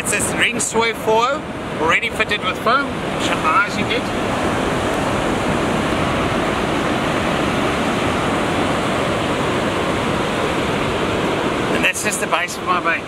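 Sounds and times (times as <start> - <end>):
surf rushing on a beach: 0.0 - 13.0.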